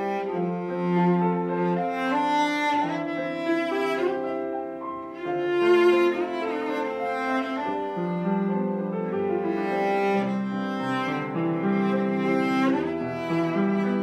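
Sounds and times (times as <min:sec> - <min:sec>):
cello bowing long notes: 0:00.0 - 0:14.0
piano accompaniment: 0:00.0 - 0:14.0.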